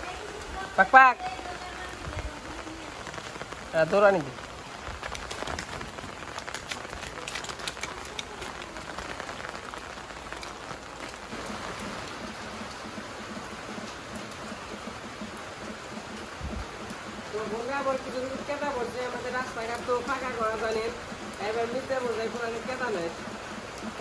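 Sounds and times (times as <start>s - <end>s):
rain on concrete: 0.0s - 24.0s.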